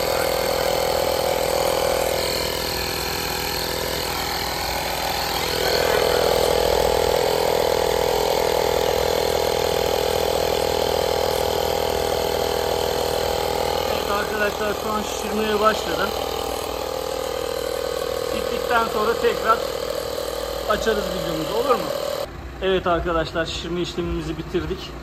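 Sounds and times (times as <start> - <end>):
air compressor drone: 0.0 - 25.0.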